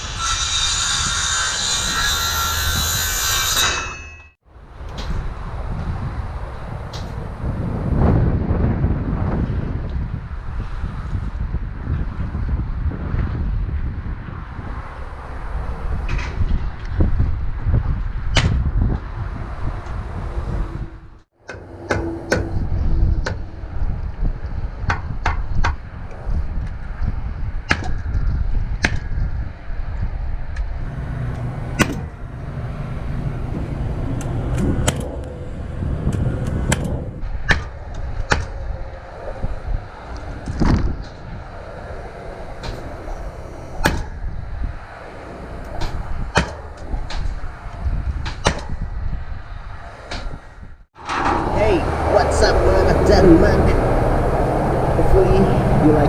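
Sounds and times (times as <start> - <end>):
wind rumble on microphone: 0.0 - 3.7, 4.5 - 56.0.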